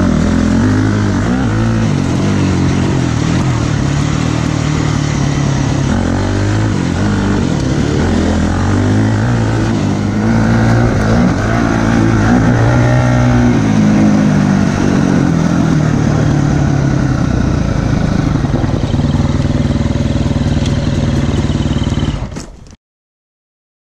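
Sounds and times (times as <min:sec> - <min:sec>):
dirt bike engine running: 0:00.0 - 0:22.6.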